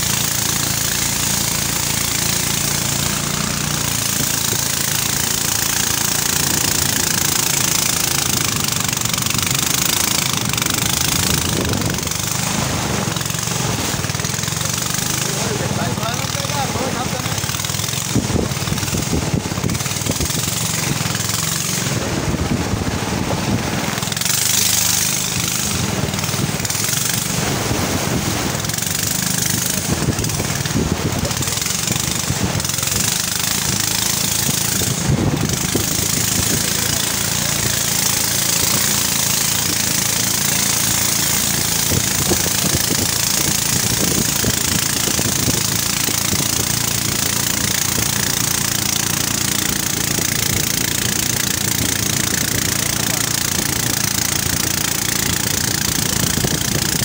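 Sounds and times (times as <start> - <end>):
boat engine running: 0.0 - 57.0
rushing water: 0.0 - 57.0
wind: 0.0 - 57.0.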